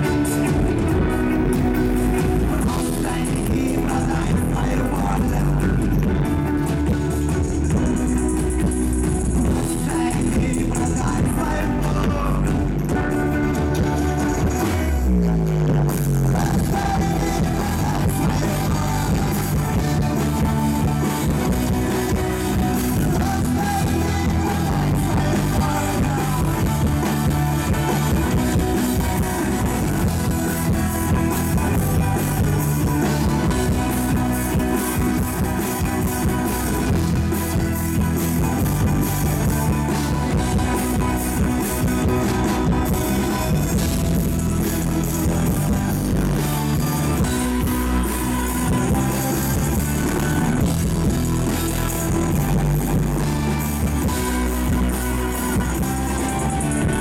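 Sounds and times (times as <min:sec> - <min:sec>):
man singing: 0:00.0 - 0:08.2, 0:09.4 - 0:38.6, 0:39.2 - 0:52.9
bass: 0:00.0 - 0:57.0
drums: 0:00.0 - 0:57.0
electric guitars: 0:00.0 - 0:57.0.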